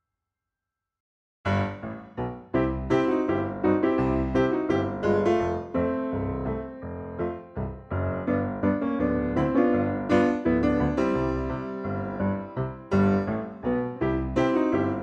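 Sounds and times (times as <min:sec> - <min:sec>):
piano music: 0:01.5 - 0:15.0.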